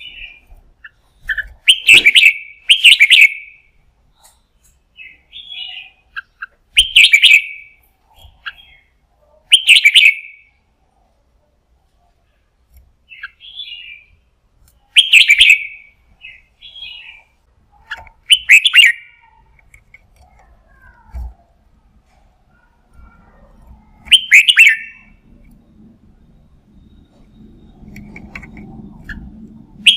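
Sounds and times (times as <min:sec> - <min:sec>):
bird singing rapid phrases: 0:00.0 - 0:10.6, 0:13.0 - 0:19.6, 0:22.5 - 0:29.9
soft bird chirps: 0:00.0 - 0:11.1, 0:11.8 - 0:29.9.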